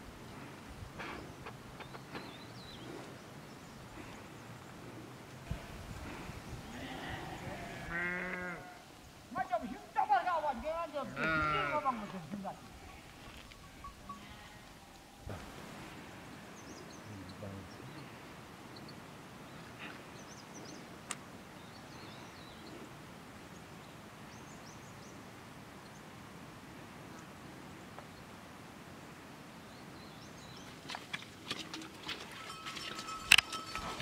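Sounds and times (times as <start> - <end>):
outdoor ambience: 0.0 - 34.0.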